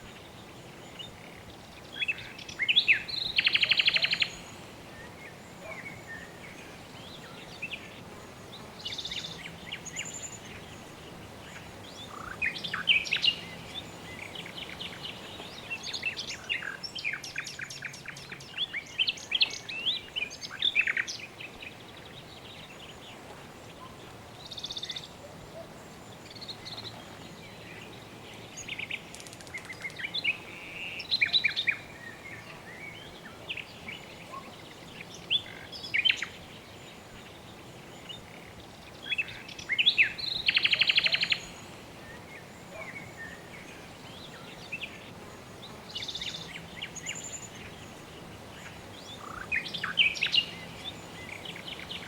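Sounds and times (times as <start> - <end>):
background hiss: 0.0 - 52.0.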